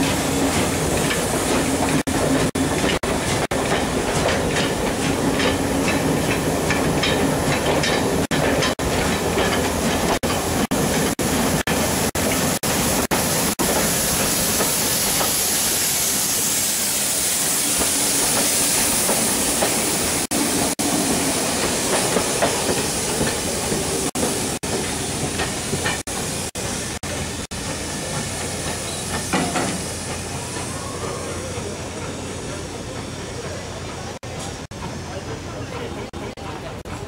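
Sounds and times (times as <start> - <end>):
steam hissing: 0.0 - 35.8
train coaches rolling on rails: 0.0 - 37.0.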